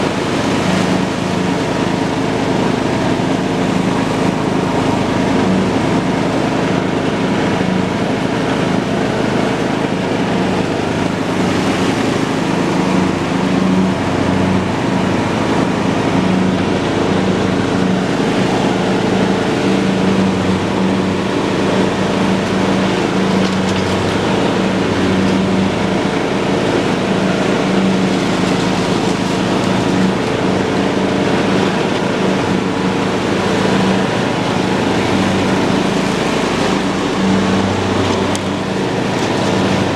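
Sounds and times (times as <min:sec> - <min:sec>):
cutting deck whirring: 0:00.0 - 0:39.9
lawn tractor engine running: 0:00.0 - 0:39.9.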